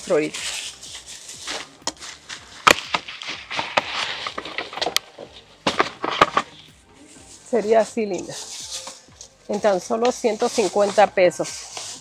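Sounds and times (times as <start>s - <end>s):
box rustling: 0.0s - 12.0s.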